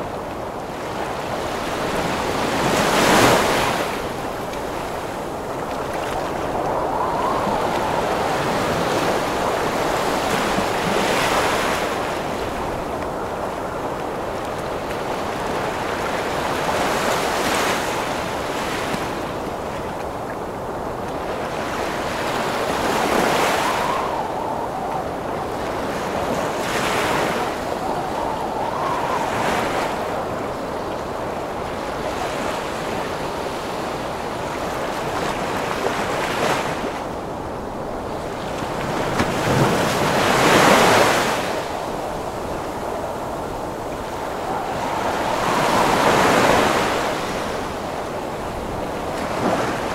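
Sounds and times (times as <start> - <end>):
ocean waves breaking: 0.0 - 19.9, 20.9 - 49.9
strong wind: 0.0 - 49.9.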